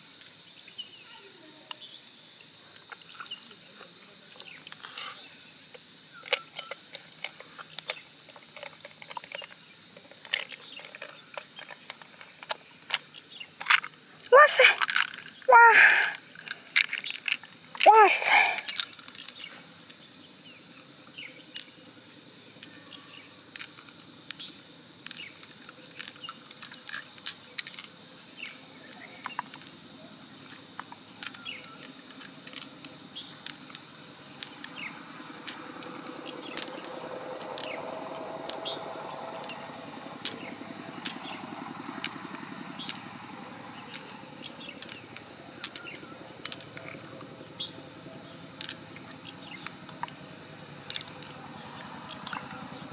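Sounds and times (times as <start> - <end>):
insects droning: 0.0 - 52.9
pearls clicking on shell: 5.8 - 21.8, 22.5 - 52.7.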